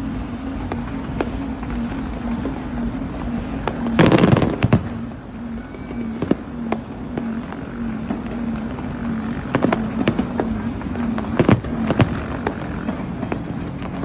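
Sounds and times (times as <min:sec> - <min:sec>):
low pulsing hum: 0:00.0 - 0:14.0
fireworks bangs and pops: 0:00.6 - 0:14.0.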